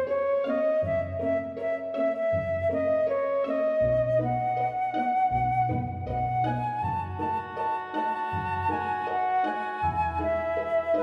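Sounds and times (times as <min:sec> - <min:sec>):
flute melody: 0:00.0 - 0:11.0
low accompanying notes: 0:00.0 - 0:11.0.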